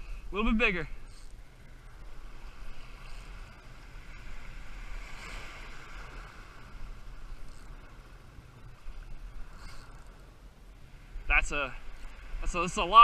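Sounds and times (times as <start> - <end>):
wind rumbling on microphone: 0.0 - 13.0
surf washing on beach: 1.6 - 10.0, 10.8 - 13.0.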